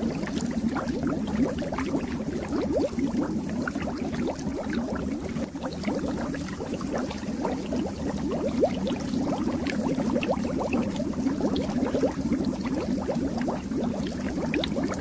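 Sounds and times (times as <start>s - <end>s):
water bubbling in fish tank: 0.0s - 15.0s.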